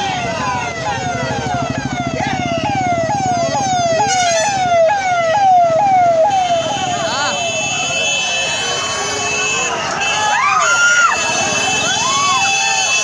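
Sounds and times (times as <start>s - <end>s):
electronic siren wailing: 0.0s - 8.8s, 10.3s - 13.0s.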